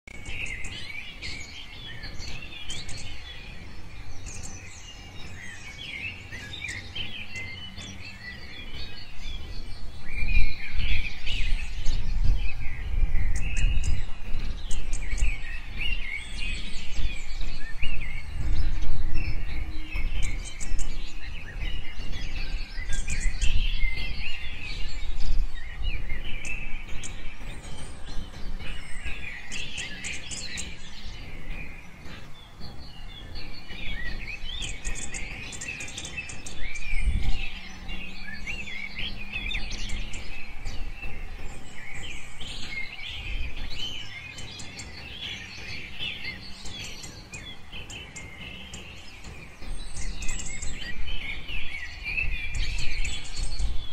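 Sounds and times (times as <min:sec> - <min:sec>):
low background rumble: 0:00.1 - 0:53.9
steady low hum: 0:00.1 - 0:53.9
waterbirds chirping: 0:00.1 - 0:53.9.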